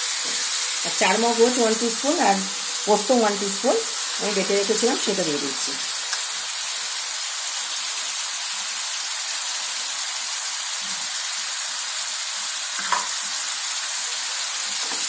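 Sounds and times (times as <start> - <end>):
curry paste sizzling in oil: 0.0 - 15.0.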